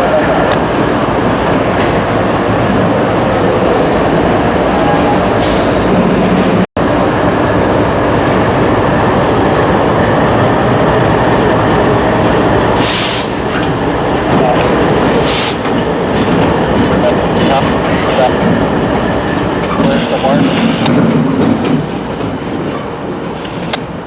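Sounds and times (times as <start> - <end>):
train rolling: 0.0 - 24.0.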